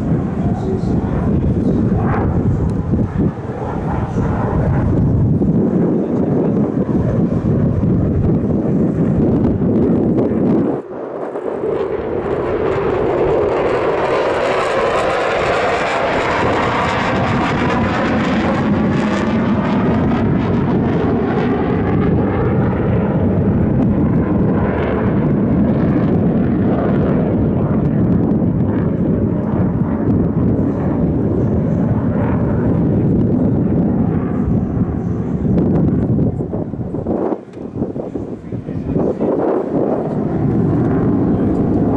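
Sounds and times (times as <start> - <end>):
aircraft engine flying past: 0.0 - 41.9.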